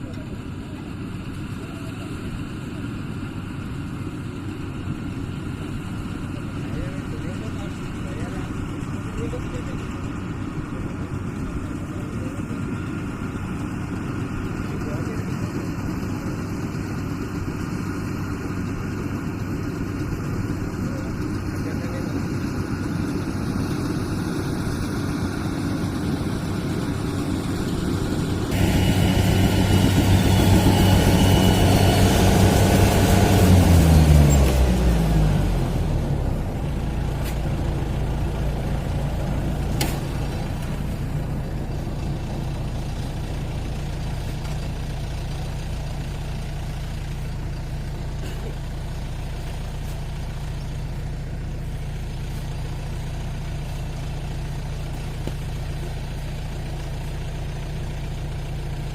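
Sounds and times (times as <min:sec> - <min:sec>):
combine harvester diesel engine: 0:00.0 - 0:58.9.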